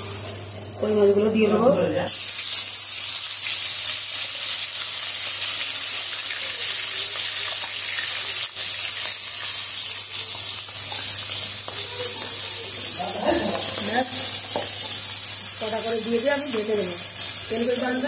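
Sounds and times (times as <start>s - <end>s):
fish sizzling in hot oil: 2.1s - 18.0s.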